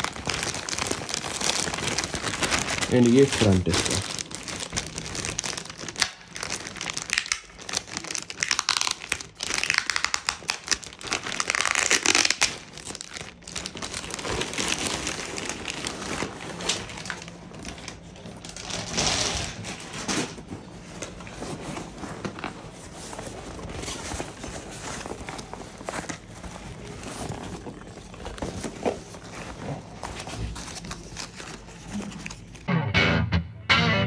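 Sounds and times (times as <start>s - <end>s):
plastic bag crinkling: 0.0s - 32.7s.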